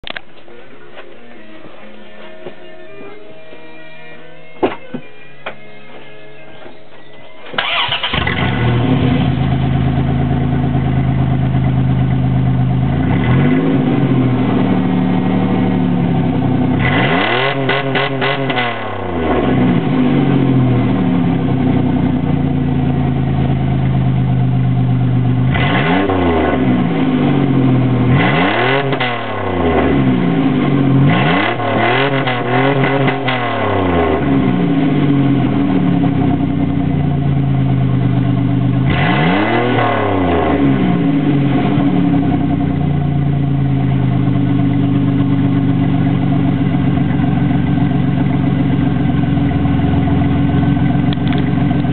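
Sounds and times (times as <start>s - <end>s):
engine idling and revving: 7.5s - 51.9s.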